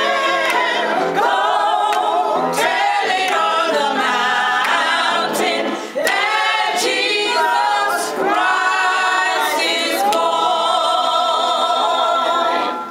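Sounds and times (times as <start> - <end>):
women singing a cappella: 0.0 - 12.9.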